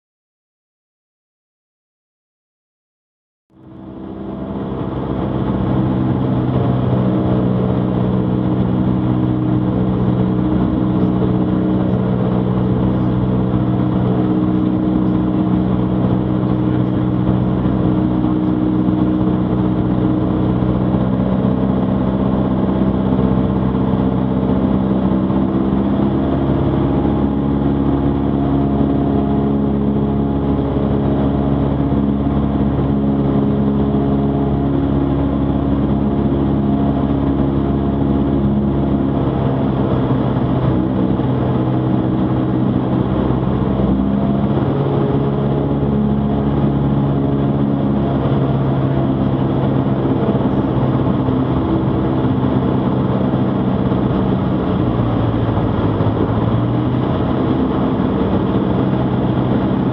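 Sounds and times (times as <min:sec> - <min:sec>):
propeller plane engine droning: 0:03.5 - 0:59.9.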